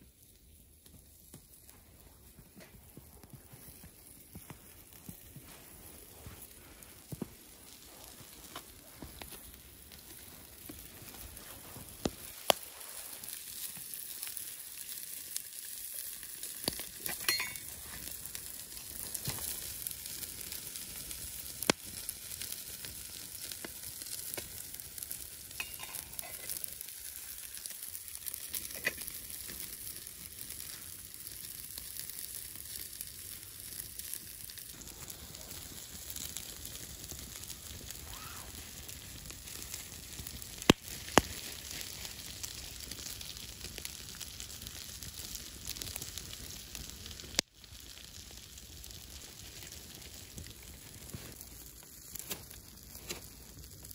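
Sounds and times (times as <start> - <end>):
campfire crackling and popping: 0.0 - 53.9
fish sizzling on hot stones: 0.0 - 53.9.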